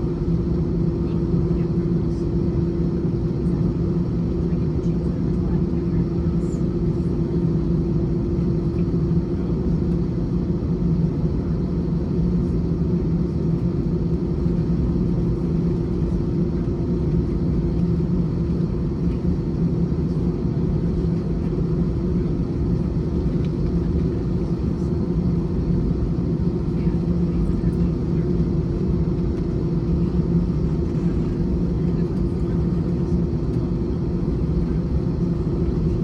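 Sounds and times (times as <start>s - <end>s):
airplane cabin drone: 0.0s - 36.0s.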